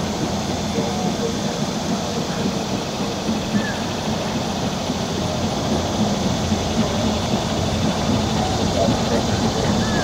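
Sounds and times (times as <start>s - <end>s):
train rolling across bridge: 0.0s - 10.0s.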